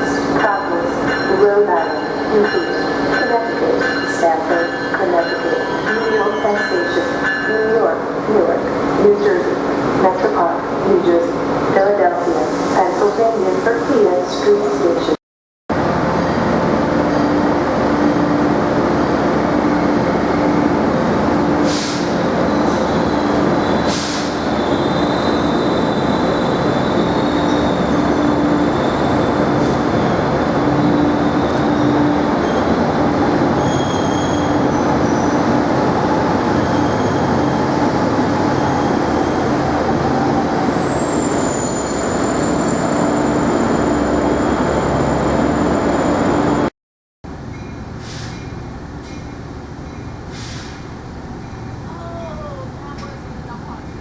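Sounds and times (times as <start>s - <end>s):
train rumbling: 0.0s - 46.7s, 47.3s - 54.0s.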